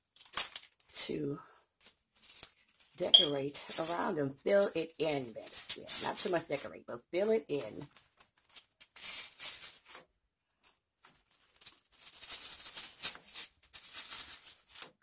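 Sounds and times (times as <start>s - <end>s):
artificial flowers rustling and crinkling: 0.0s - 15.0s.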